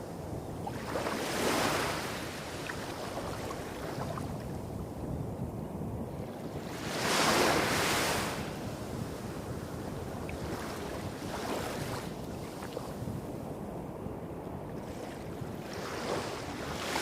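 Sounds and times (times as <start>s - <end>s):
small waves washing up a beach: 0.0s - 17.0s.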